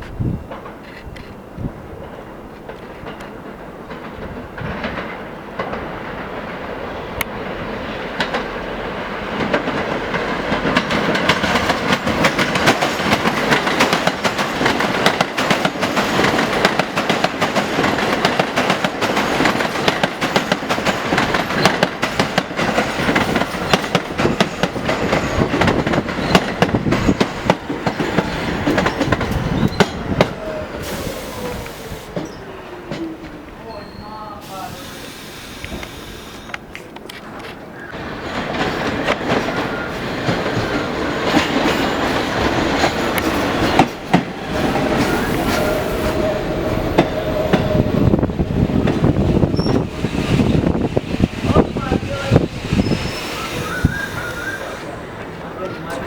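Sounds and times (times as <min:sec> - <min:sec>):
subway train wheels clacking: 0:00.0 - 0:56.0.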